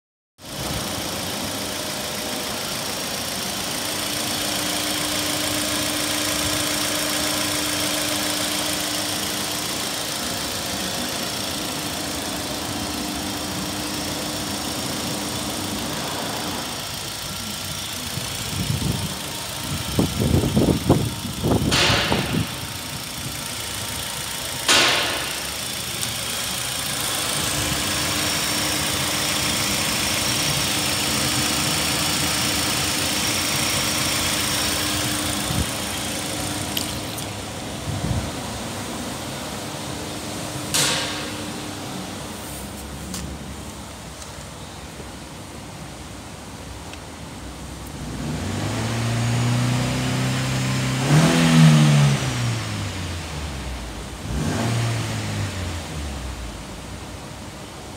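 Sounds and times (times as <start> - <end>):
car engine idling: 0.4 - 48.0, 49.6 - 57.9.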